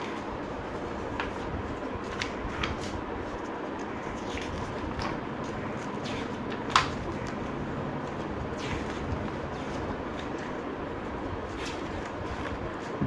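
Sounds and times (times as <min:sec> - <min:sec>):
book pages turning: 0:00.0 - 0:13.0.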